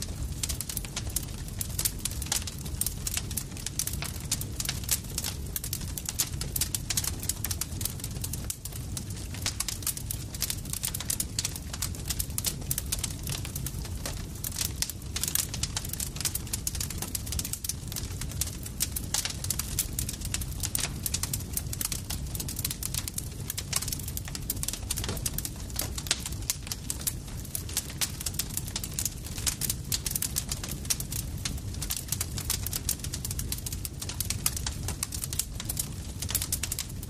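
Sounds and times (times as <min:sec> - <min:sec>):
campfire pops and snaps: 0:00.0 - 0:37.0
low rumble of burning wood: 0:00.0 - 0:37.0.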